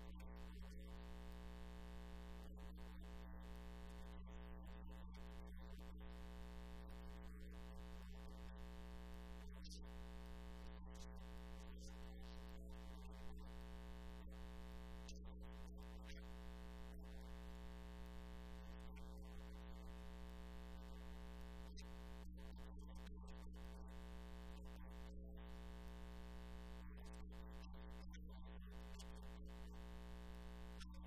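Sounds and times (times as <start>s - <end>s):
faint electrical mains hum: 0.0s - 31.0s.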